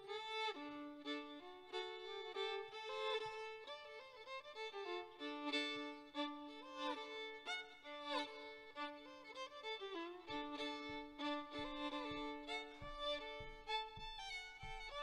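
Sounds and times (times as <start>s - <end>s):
solo fiddle tune: 0.0s - 15.0s.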